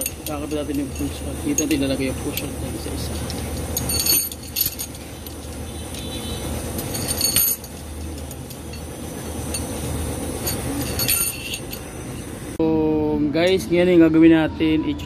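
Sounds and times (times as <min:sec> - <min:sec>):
metallic clinks of pushrods: 0:00.0 - 0:12.3
low workshop hum: 0:00.0 - 0:15.0.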